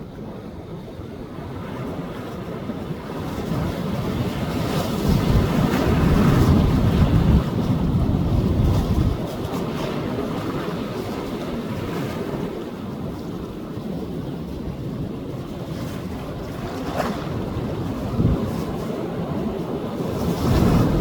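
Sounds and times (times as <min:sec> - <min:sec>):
wind buffeting microphone: 0:00.0 - 0:21.0
sea waves breaking on beach: 0:01.4 - 0:21.0.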